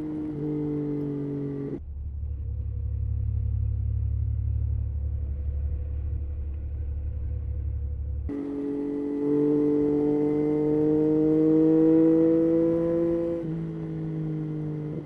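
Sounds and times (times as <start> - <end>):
muffled motorcycle engine rumble: 0.0 - 15.0.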